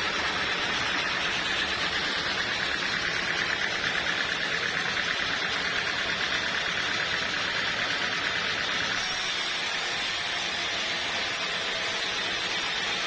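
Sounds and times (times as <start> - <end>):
sawmill machinery pulsing: 0.0 - 13.0.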